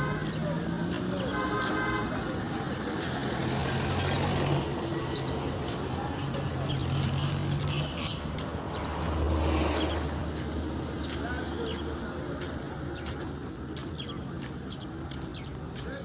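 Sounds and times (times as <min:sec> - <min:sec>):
road noise: 0:00.0 - 0:16.0
vehicle engines humming: 0:00.0 - 0:16.0.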